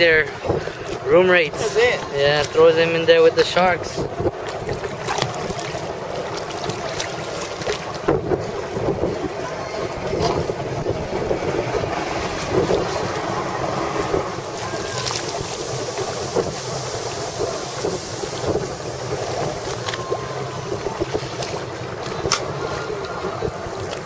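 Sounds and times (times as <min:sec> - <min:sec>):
water splashing against boat: 0:00.0 - 0:24.0
wind buffeting microphone: 0:00.0 - 0:24.0.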